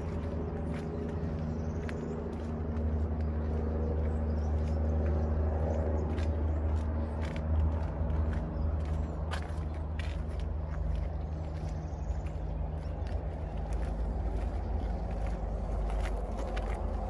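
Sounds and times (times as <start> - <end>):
faint footsteps on footbridge: 0.0 - 17.0
steady low rumble: 0.0 - 17.0.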